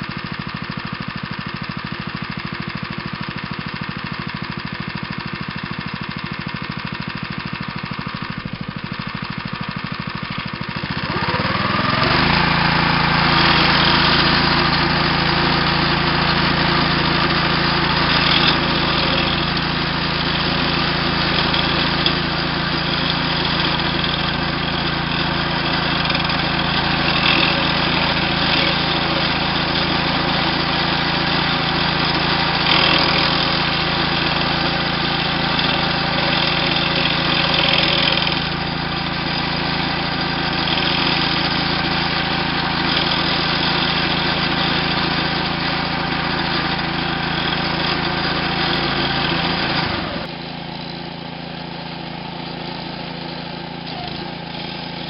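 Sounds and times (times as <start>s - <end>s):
small gasoline engine running: 0.0s - 55.0s
gritty grinding through soil: 10.6s - 55.0s.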